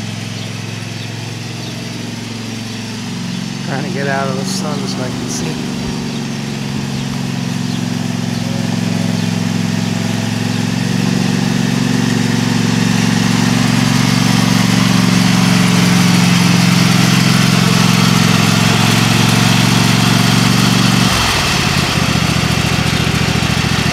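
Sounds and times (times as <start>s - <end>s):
garden tractor engine running: 0.0s - 23.9s.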